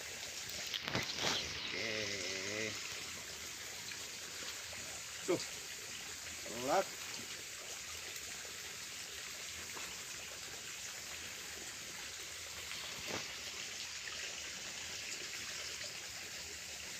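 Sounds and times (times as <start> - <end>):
rushing running water: 0.0 - 16.9.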